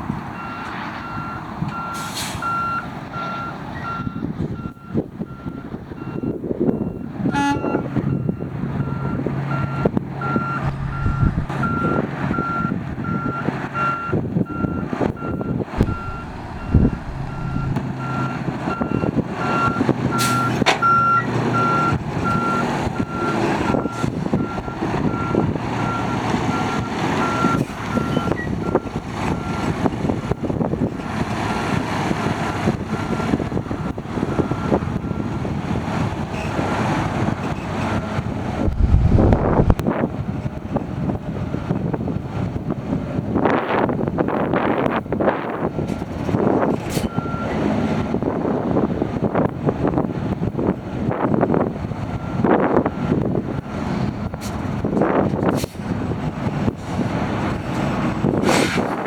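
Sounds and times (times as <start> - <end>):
diesel truck engine running: 0.0 - 51.1
truck reversing alarm beeping: 0.3 - 39.8, 44.3 - 48.6, 51.4 - 55.5.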